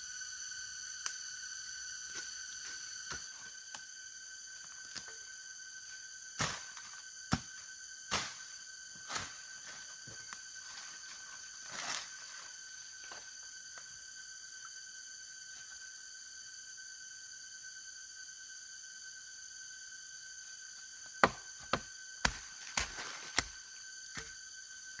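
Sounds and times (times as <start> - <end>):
steady high-pitched whine: 0.0 - 25.0.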